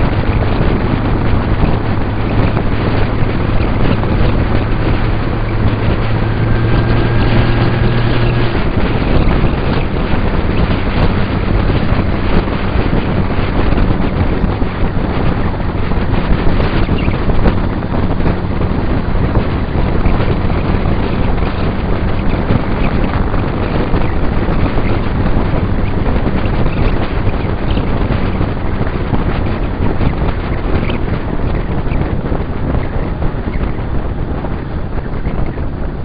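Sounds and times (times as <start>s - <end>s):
heavy wind rush on microphone: 0.0s - 36.0s
motorcycle engine drone: 0.0s - 36.0s.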